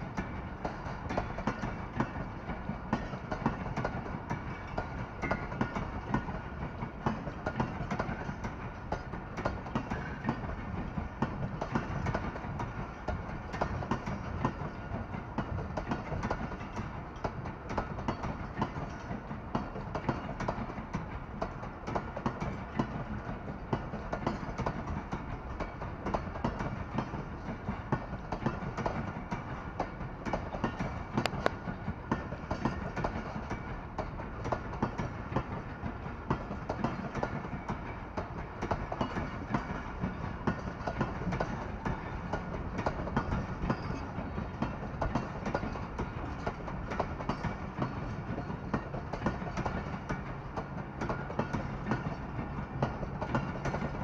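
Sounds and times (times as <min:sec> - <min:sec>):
train coaches rumbling past: 0:00.0 - 0:54.0.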